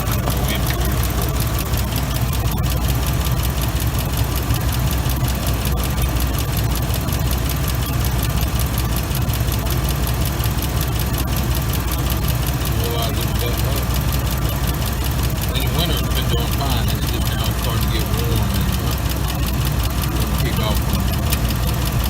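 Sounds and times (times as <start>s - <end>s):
fast even ticking: 0.0s - 22.0s
truck engine idling: 0.0s - 22.0s.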